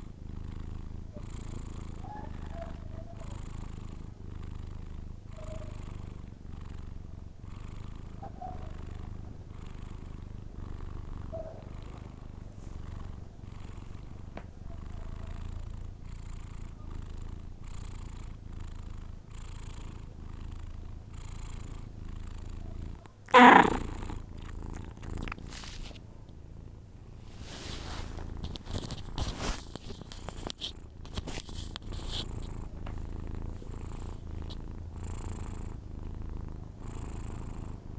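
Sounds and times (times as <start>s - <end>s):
cat snoring: 0.0s - 37.9s.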